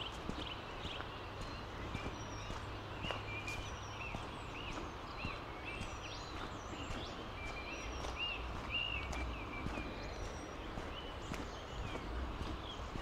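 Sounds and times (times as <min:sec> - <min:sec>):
footsteps on outdoor trail: 0:00.0 - 0:13.0.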